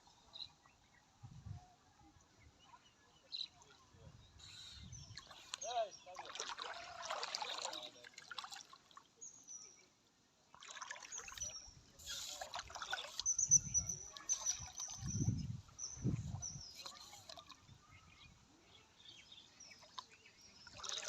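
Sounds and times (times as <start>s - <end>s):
water splashing and trickling: 2.6s - 9.8s, 10.4s - 21.0s.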